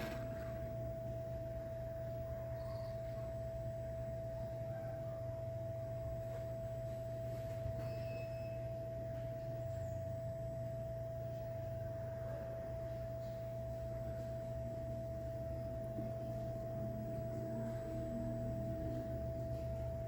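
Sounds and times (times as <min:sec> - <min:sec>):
blower humming: 0:00.0 - 0:20.0
steady high whine: 0:00.0 - 0:20.0.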